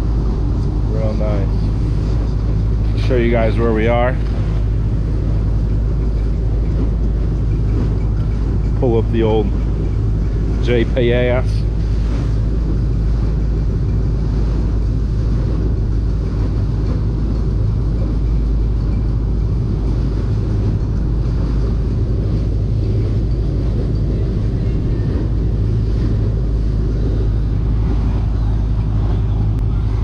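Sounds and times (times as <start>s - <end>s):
boat engine droning: 0.0s - 30.0s
wind noise on microphone: 0.0s - 30.0s.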